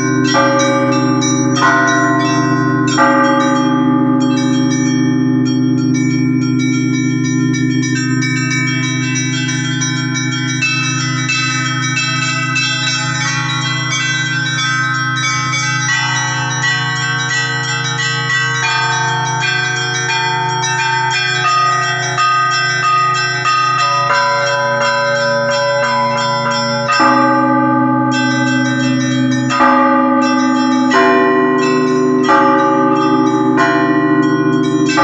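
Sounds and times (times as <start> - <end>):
large bell humming: 0.0 - 35.0
small church bells striking: 0.0 - 35.0.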